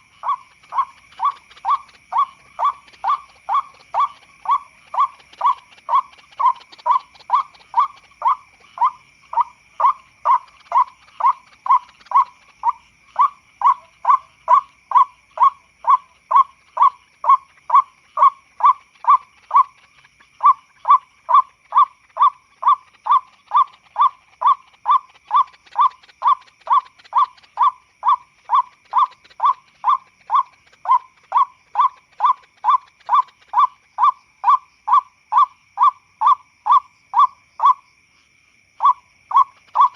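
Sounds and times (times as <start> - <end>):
bird harsh repeated call: 0.0 - 37.8, 38.8 - 39.9.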